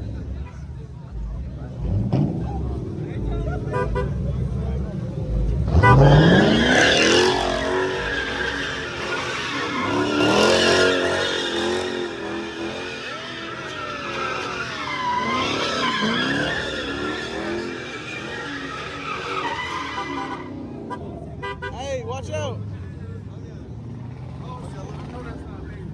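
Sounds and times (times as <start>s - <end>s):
car engine revving: 0.0s - 25.9s
tires screeching: 0.0s - 25.9s.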